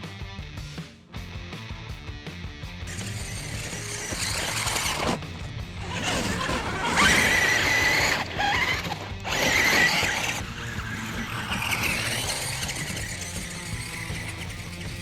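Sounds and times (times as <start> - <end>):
background music with steady beat: 0.0 - 15.0
high whine: 2.9 - 15.0.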